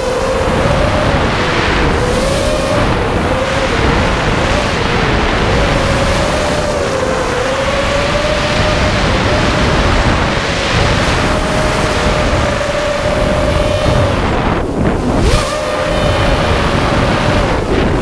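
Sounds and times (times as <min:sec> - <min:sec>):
drone motors whining: 0:00.0 - 0:18.0
wind buffeting microphone: 0:00.0 - 0:18.0.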